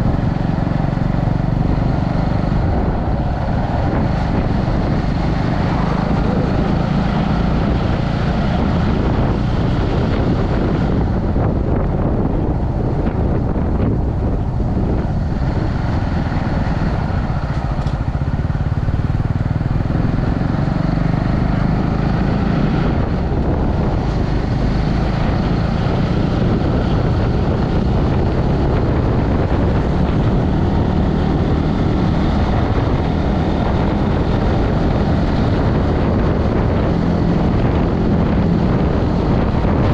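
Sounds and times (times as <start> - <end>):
motorbike engine roaring: 0.0 - 39.9
rushing wind: 0.0 - 39.9.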